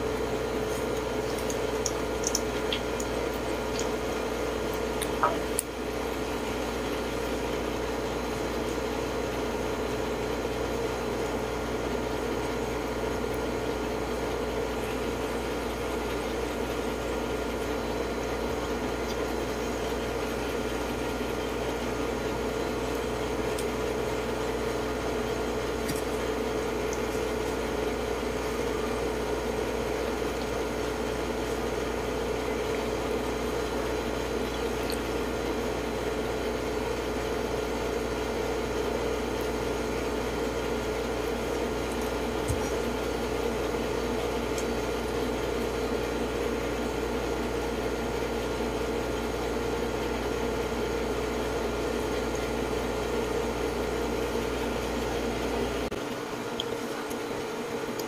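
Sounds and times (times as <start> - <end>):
steady machine hum with hiss: 0.0 - 58.0.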